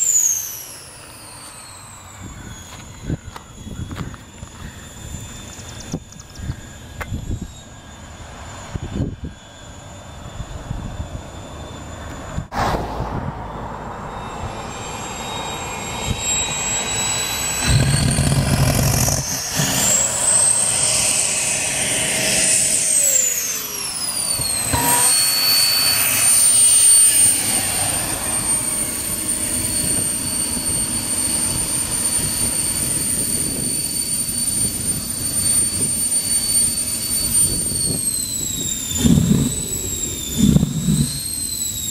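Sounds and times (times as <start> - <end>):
gas turbine engine whine: 0.0 - 41.9.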